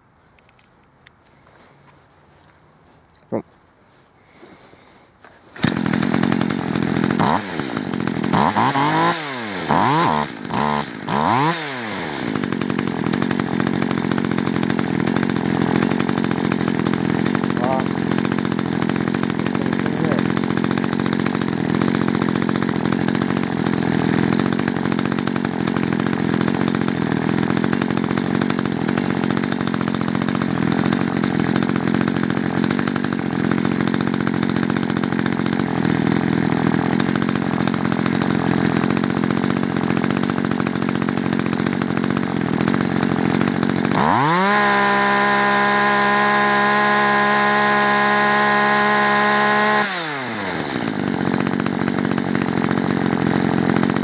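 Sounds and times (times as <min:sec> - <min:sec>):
chainsaw engine idling and revving: 0:04.3 - 0:54.0.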